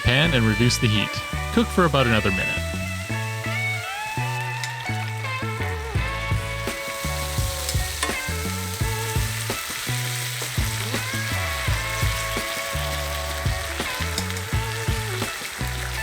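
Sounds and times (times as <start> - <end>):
background music with bass line: 0.0 - 16.0
meat sizzling in a frying pan: 2.4 - 16.0.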